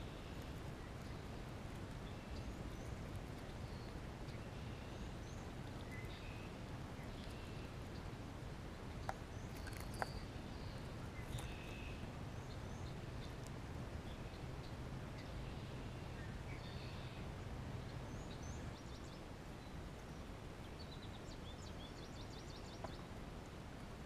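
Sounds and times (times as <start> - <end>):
low outdoor background noise: 0.0 - 24.0.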